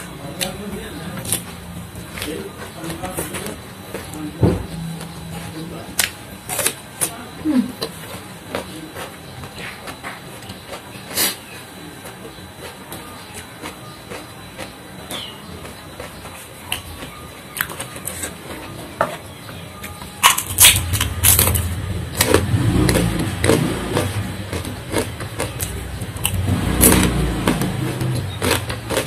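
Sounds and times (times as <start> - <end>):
close-miked chewing with crunches: 0.0 - 29.0.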